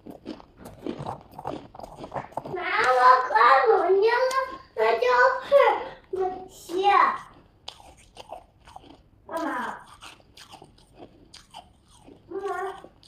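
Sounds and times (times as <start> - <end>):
crunching and chewing: 0.0 - 5.0, 6.0 - 13.0.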